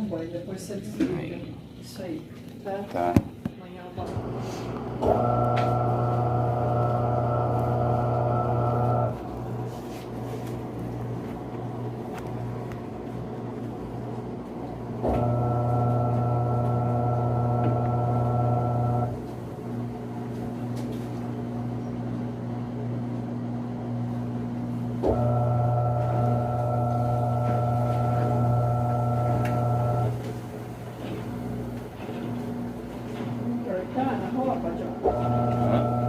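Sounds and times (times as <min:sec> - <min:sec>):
washing machine motor humming: 0:00.0 - 0:36.0.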